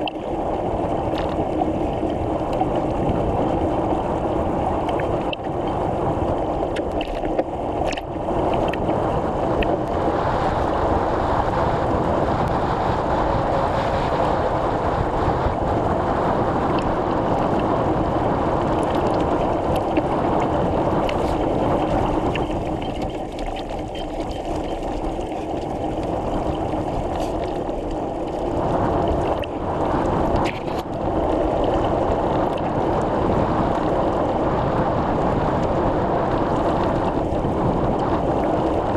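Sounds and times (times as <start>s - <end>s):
bicycle rolling noise: 0.0s - 38.9s
rushing wind: 0.0s - 38.9s.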